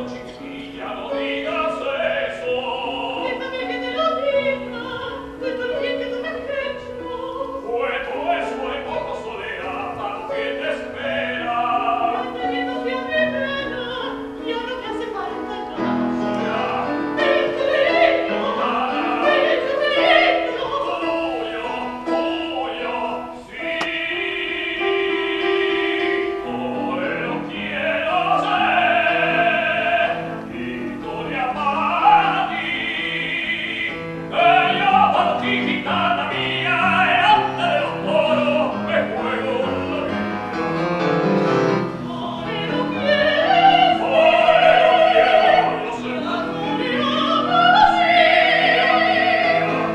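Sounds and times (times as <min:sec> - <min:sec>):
operatic singing: 0:00.0 - 0:49.9
piano accompaniment: 0:00.0 - 0:49.9.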